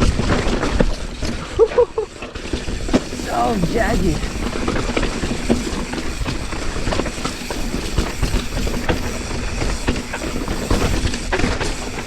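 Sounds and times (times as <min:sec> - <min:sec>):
bike knocking and rattling: 0:00.0 - 0:01.4, 0:02.2 - 0:03.2, 0:04.3 - 0:12.0
bike tyres rolling over rock: 0:00.0 - 0:03.2, 0:04.2 - 0:12.0.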